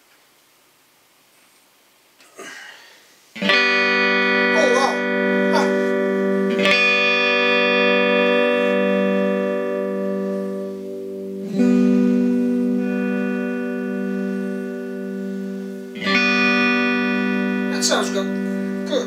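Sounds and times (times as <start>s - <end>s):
electric guitar strummed: 3.4s - 19.0s.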